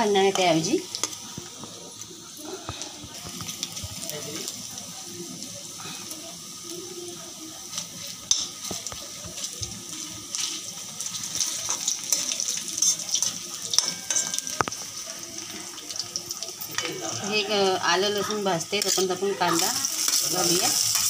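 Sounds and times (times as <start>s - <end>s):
garlic sizzling in hot oil: 0.0s - 21.0s.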